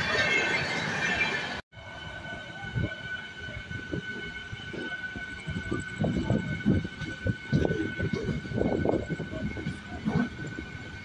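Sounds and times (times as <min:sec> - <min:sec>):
high-pitched train whine: 0:00.0 - 0:11.0.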